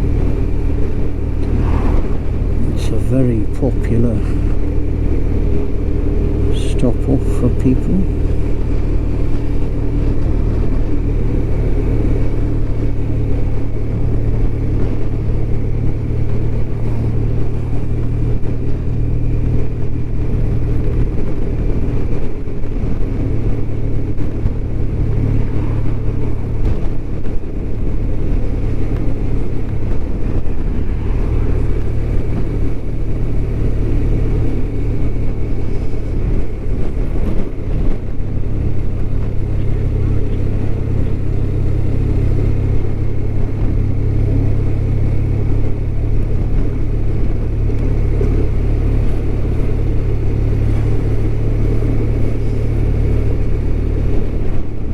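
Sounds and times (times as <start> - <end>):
motorcycle engine cruising: 0.0 - 54.9
wind and road noise: 0.0 - 54.9.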